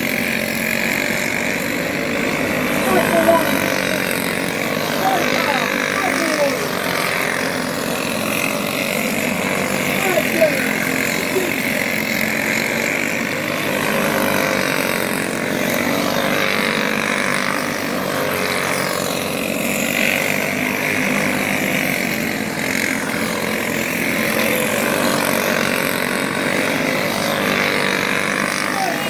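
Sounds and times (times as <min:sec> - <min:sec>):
kart engines buzzing: 0:00.0 - 0:29.0.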